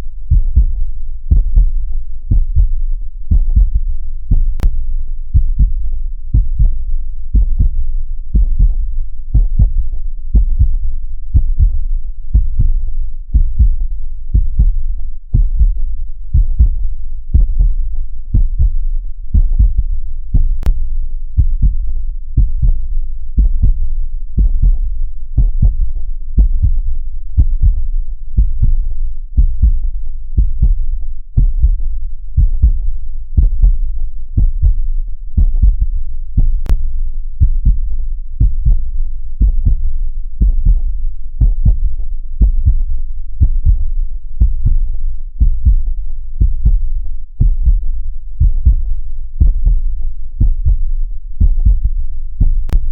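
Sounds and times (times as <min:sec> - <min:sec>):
muffled heartbeat: 0:00.0 - 0:52.9.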